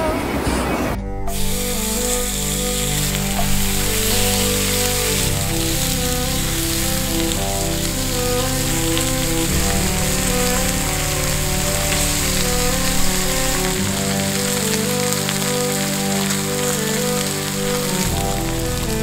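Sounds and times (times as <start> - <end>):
background music with held chords: 0.9 - 19.0
pork sizzling on a griddle: 1.3 - 19.0.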